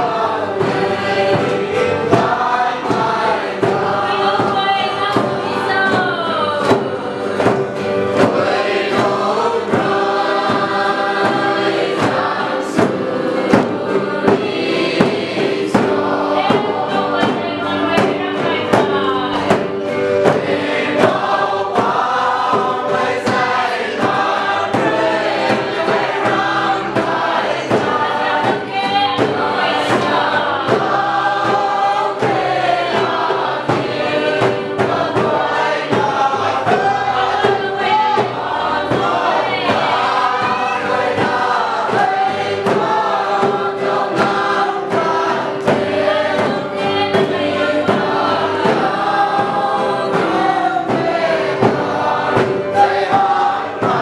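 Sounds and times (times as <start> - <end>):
group singing together: 0.0 - 54.0
hand drum beating: 0.0 - 54.0.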